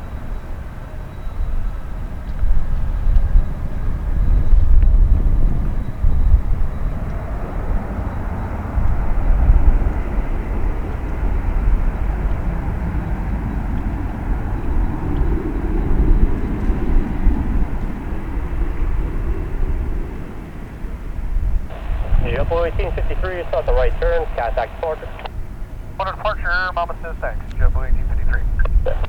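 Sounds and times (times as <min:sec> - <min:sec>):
jet airliner taking off: 0:00.2 - 0:29.0.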